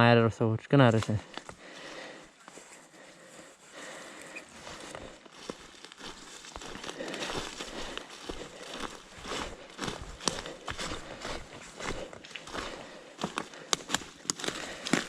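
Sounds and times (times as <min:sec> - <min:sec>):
footsteps on stony ground: 0:00.8 - 0:15.0.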